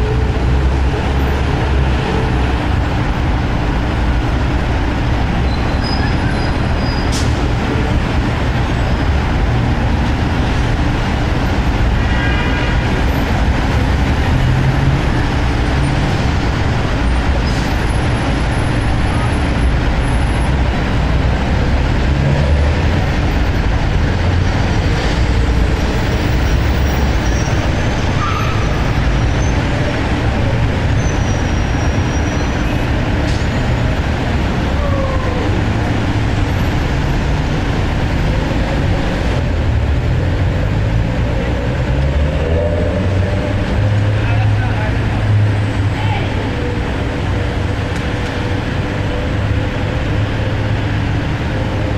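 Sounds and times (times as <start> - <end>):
passing vehicles: 0.0 - 51.9.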